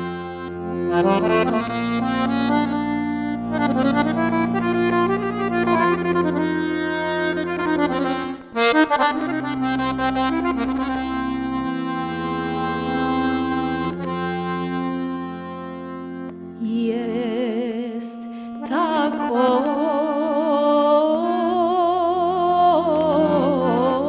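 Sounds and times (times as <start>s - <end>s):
piano accordion playing: 0.0s - 24.0s.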